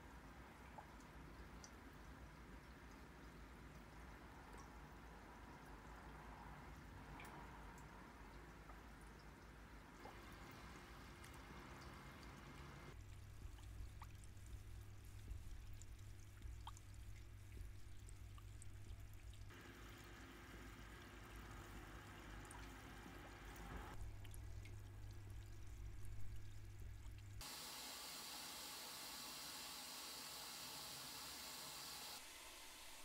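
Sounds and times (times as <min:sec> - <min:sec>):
low steady hum: 0:00.0 - 0:27.4
water trickling and dripping: 0:00.0 - 0:27.4.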